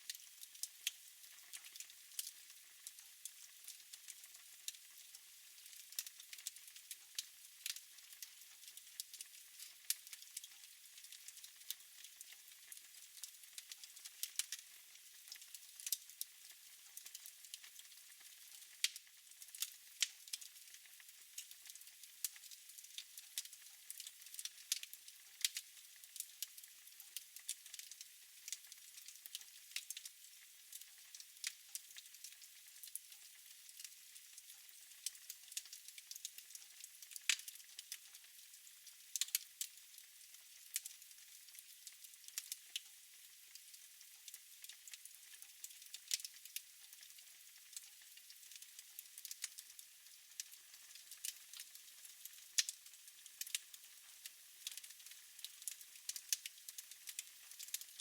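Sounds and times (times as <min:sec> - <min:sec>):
faint steady hiss: 0:00.0 - 0:58.0
wood fire crackling: 0:00.1 - 0:04.4, 0:05.0 - 0:14.6, 0:15.3 - 0:26.5, 0:27.1 - 0:33.0, 0:33.7 - 0:39.7, 0:40.6 - 0:42.8, 0:44.6 - 0:58.0.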